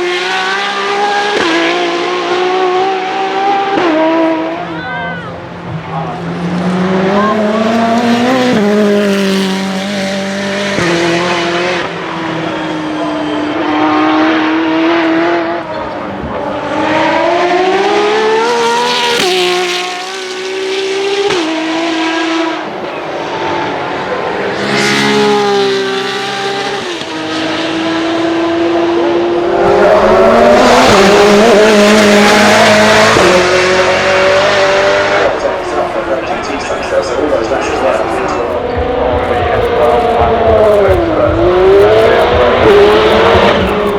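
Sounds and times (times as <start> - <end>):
car engine revving and accelerating: 0.0 - 43.9.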